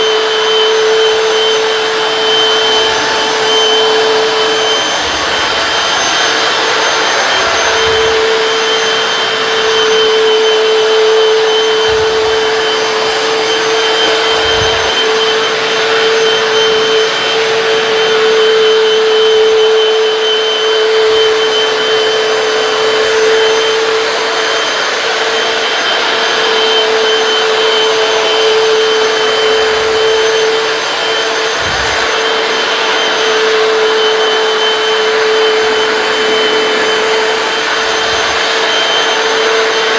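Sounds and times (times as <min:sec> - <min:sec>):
floor cleaner motor whine: 0:00.0 - 0:39.9.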